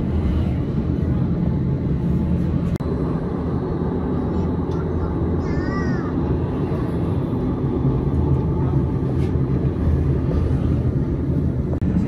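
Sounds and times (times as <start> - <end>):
electric train rumbling on track: 0.0 - 12.0.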